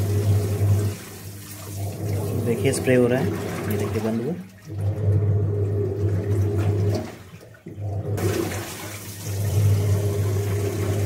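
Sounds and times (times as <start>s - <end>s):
washing machine motor humming: 0.0s - 11.0s
water sloshing: 0.0s - 11.0s.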